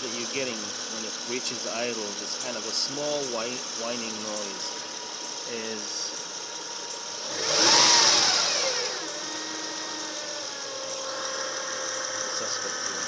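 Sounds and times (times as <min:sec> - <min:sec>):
car engine revving and idling: 0:00.0 - 0:13.0
steady whining noise: 0:00.0 - 0:13.0.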